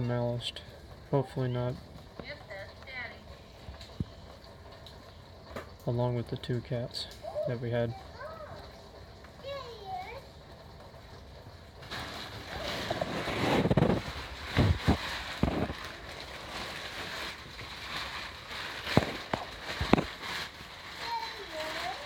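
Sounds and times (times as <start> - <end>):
rain: 0.0 - 22.0.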